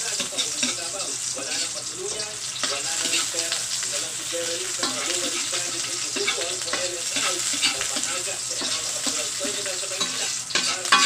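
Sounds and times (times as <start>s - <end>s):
onion and garlic sizzling in oil: 0.0s - 11.0s.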